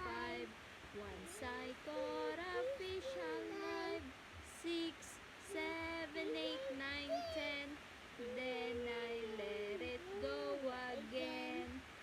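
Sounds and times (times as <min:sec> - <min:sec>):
woman and toddler singing: 0:00.0 - 0:12.0.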